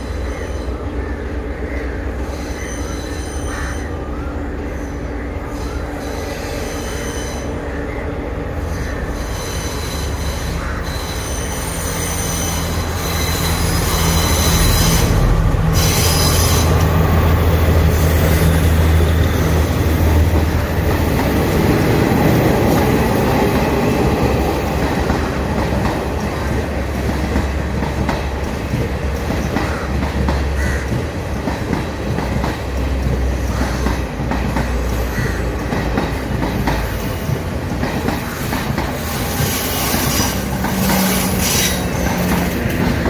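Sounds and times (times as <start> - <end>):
diesel train rumbling past: 0.0 - 43.0.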